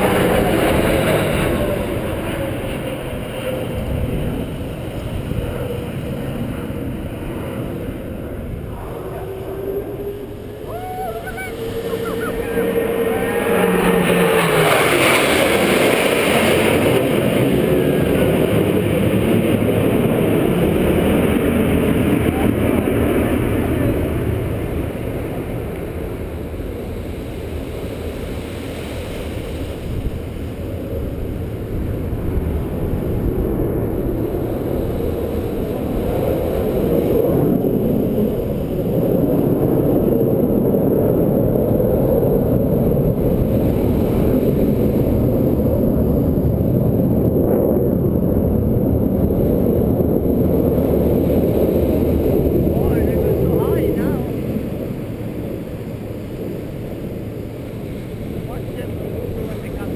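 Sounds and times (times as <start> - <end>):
jets flying over: 0.0 - 59.9.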